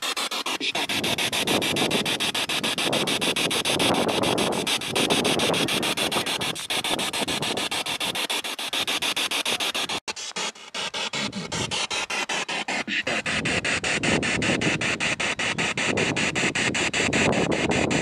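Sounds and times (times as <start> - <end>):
choppy radio static: 0.0 - 10.1, 12.6 - 18.0
scraps of broadcast sound: 0.0 - 18.0.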